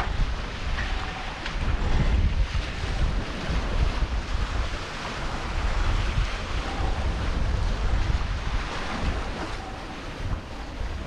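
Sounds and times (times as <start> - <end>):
water rushing and splashing on hulls: 0.0 - 11.0
wind buffeting microphone: 0.0 - 11.0.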